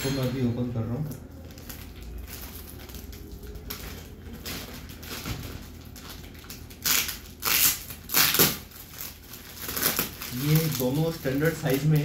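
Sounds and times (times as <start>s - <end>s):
packaging crackling and crinkling: 0.8s - 12.0s.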